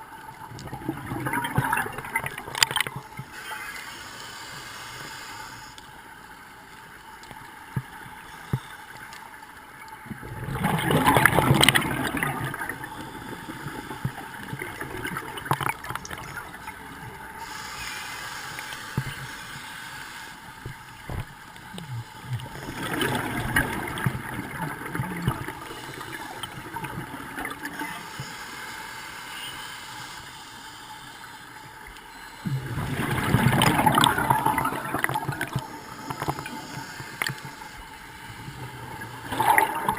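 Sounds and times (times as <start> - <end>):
underwater bubbles gurgling: 0.0 - 3.9, 4.5 - 28.9, 31.6 - 39.9
faint clicks: 1.5 - 10.2, 11.6 - 32.5, 33.5 - 39.9.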